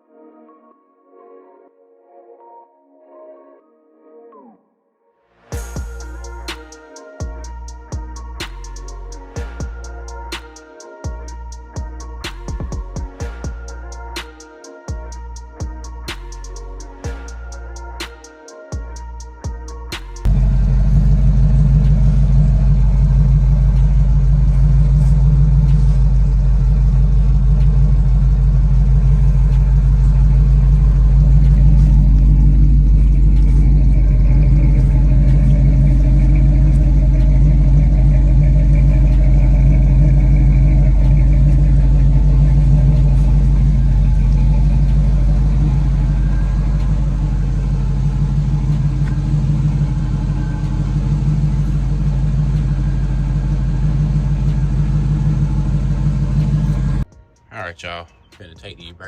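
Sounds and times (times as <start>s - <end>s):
car engine idling: 5.5s - 14.2s, 14.9s - 18.1s, 18.8s - 57.1s.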